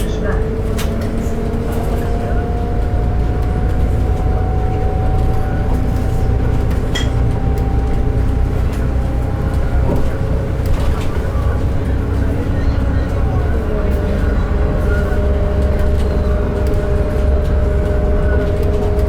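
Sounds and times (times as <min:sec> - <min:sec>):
bus drivetrain rumble: 0:00.0 - 0:19.0
thin drivetrain whine: 0:00.0 - 0:19.0.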